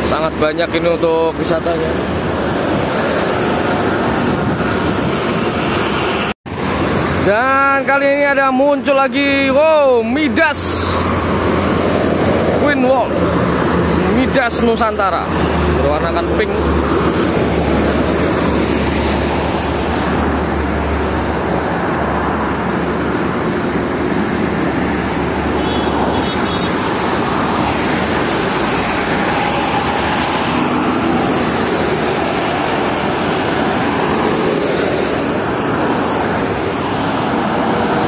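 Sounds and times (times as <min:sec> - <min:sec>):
buses passing close by: 0:00.0 - 0:08.2, 0:09.1 - 0:38.0
heavy road traffic: 0:00.0 - 0:38.0.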